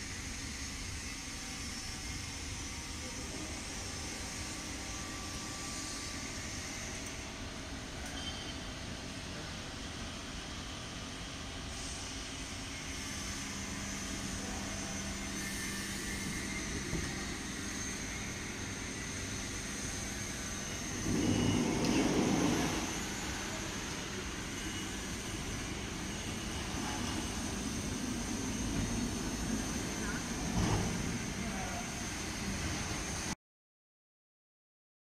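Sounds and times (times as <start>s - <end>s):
engine drone: 0.0s - 33.4s.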